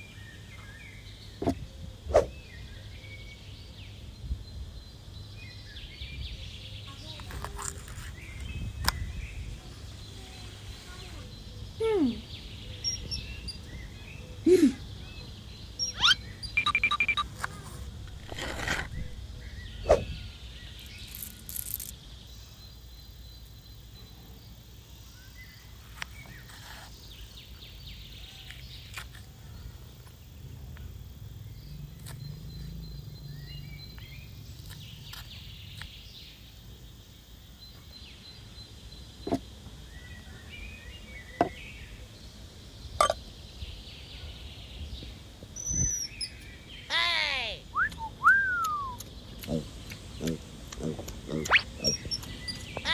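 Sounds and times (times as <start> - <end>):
faint chirps: 6.2 - 36.6, 37.4 - 52.9.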